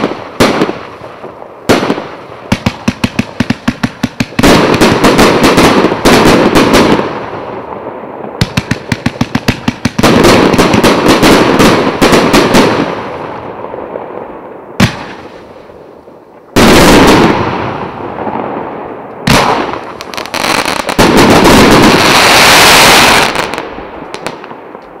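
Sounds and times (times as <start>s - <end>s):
fireworks bursts and crackling: 0.0s - 25.0s.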